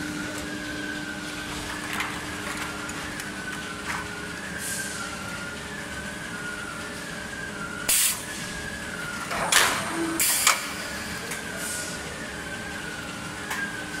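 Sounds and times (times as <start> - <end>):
machine running with whine: 0.0 - 14.0.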